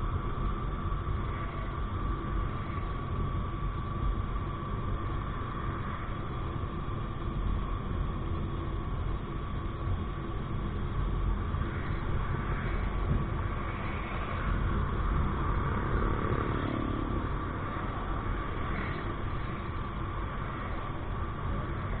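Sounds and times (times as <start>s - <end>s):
thin steady whine: 0.0s - 22.0s.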